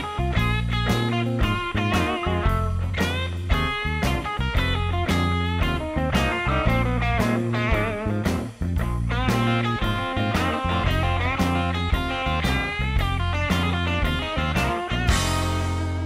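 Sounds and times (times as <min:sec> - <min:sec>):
bass line: 0:00.0 - 0:16.0
plucked electric guitar: 0:00.0 - 0:16.0
steady beat: 0:00.0 - 0:16.0.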